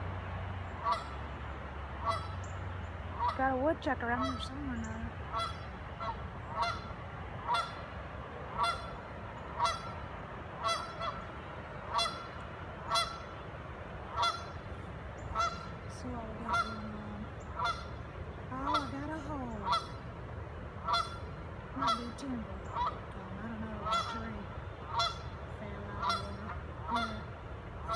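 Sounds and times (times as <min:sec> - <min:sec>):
goose honking: 0:00.8 - 0:01.2, 0:02.0 - 0:02.5, 0:03.1 - 0:07.9, 0:08.5 - 0:13.4, 0:14.1 - 0:20.1, 0:20.8 - 0:27.9.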